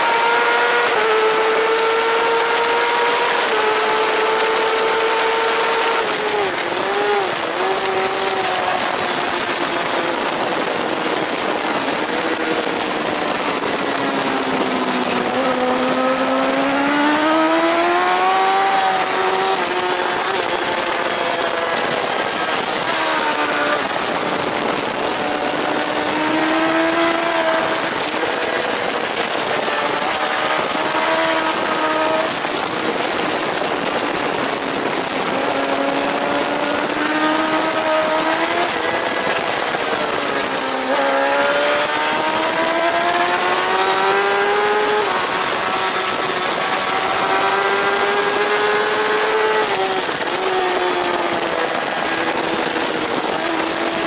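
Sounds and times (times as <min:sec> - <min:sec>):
motorbike engine revving: 0:00.0 - 0:54.0
wind rush: 0:00.0 - 0:54.0.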